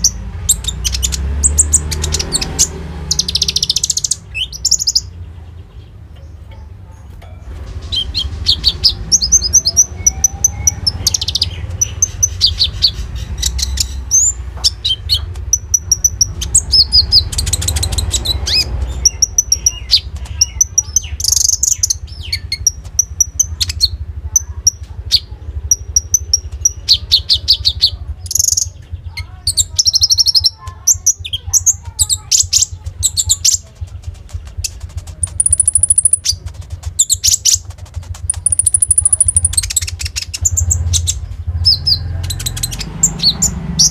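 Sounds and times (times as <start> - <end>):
songbird singing trills and chirps: 0.0 - 43.9.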